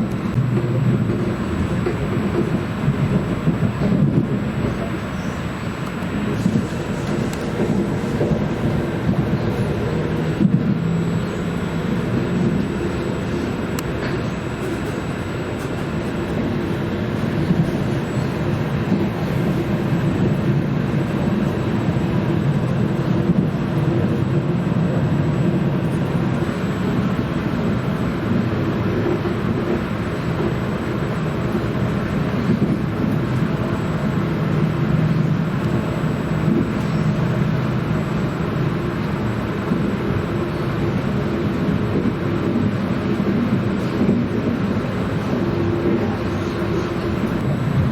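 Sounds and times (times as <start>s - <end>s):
passenger train running on track: 0.0s - 47.9s.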